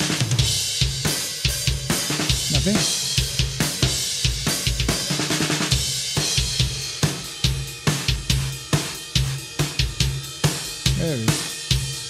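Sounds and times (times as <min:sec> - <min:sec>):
drum kit with gated snare: 0:00.0 - 0:12.0.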